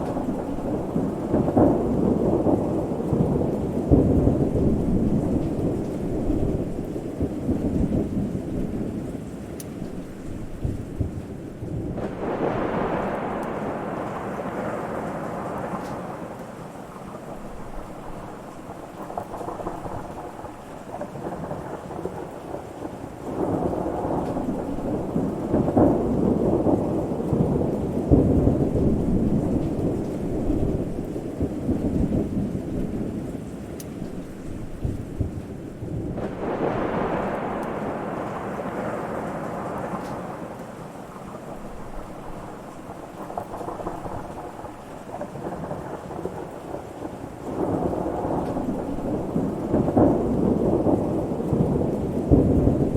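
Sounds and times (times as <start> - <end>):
rain hissing: 0.0 - 52.9
rolling thunder: 0.0 - 52.9.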